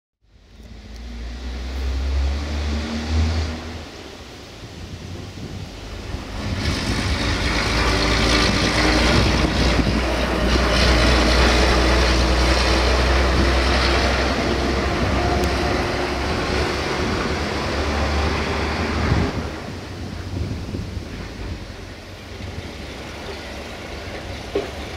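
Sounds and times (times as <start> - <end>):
diesel truck driving past: 0.2 - 24.9.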